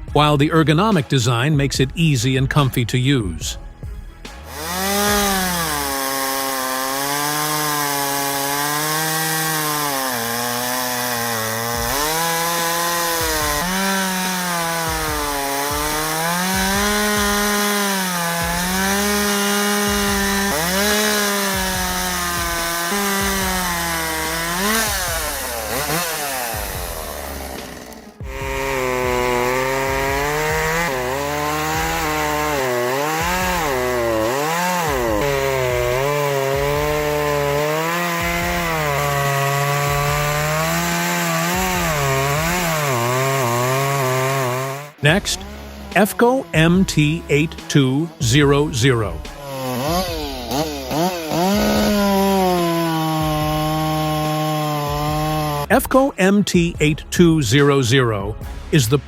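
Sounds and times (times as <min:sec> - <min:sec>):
chainsaw cutting through wood: 0:00.0 - 0:59.0.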